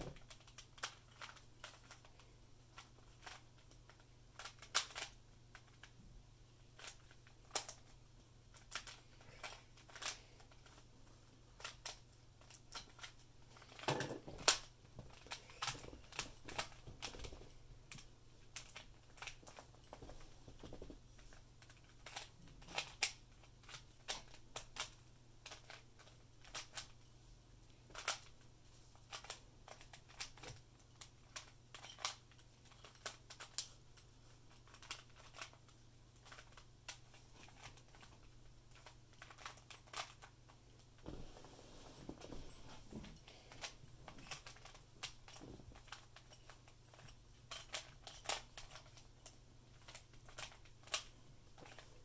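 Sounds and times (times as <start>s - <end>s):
puzzle cube plastic clicks: 0.0s - 6.0s, 6.7s - 10.9s, 11.6s - 20.0s, 21.2s - 27.0s, 27.8s - 28.4s, 29.0s - 41.0s, 43.1s - 52.0s.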